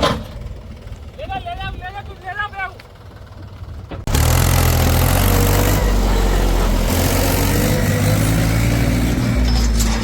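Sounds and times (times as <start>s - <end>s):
heavy diesel engine running: 0.2s - 10.0s.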